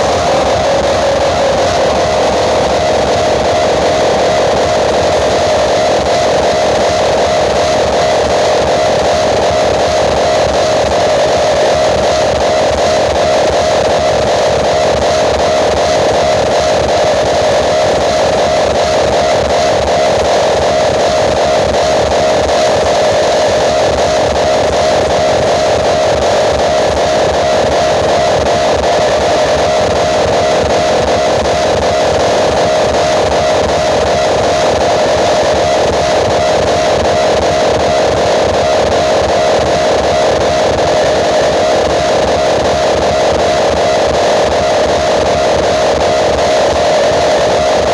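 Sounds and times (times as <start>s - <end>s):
loud music from speakers: 0.0s - 47.9s.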